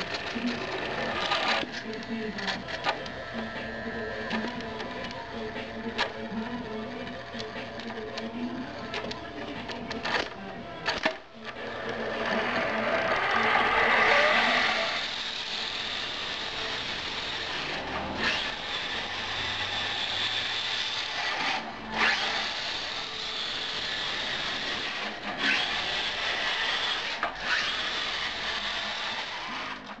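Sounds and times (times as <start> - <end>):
toy truck motor whirring: 0.0 - 30.0.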